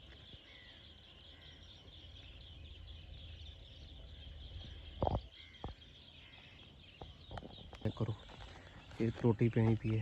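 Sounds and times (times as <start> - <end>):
chorus of birds and insects: 0.0 - 10.0.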